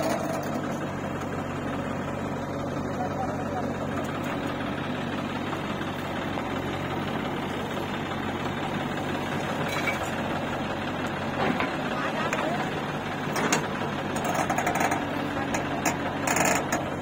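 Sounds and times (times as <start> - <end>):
diesel engines knocking: 0.0 - 17.0.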